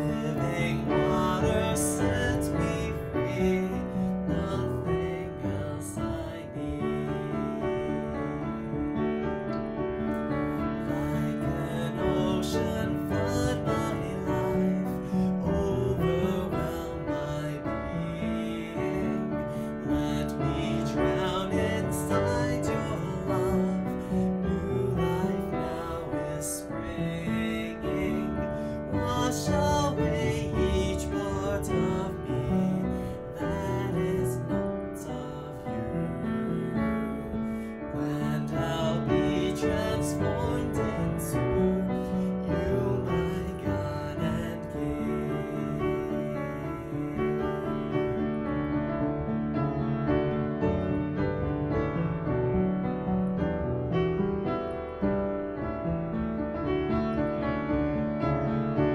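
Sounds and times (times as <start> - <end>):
slow piano worship song: 0.0 - 58.9.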